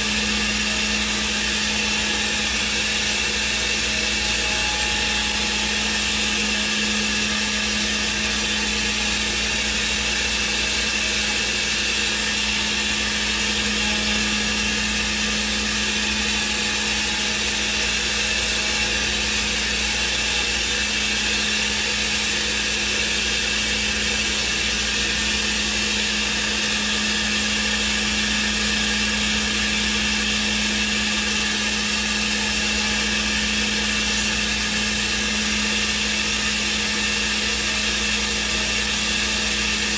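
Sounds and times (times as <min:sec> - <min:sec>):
router machine humming and hissing: 0:00.0 - 0:39.9.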